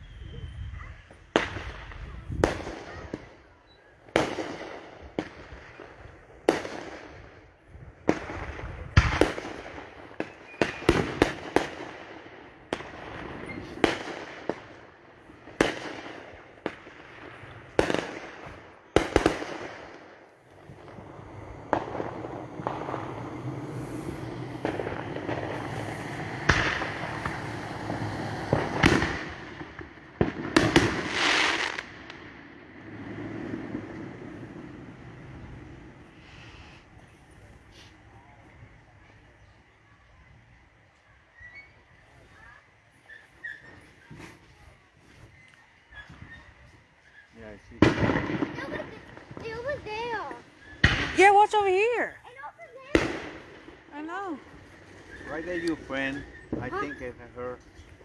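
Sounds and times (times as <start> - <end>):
fireworks bangs: 0.0 - 40.4, 41.4 - 58.0
fireworks crackling: 0.0 - 58.0.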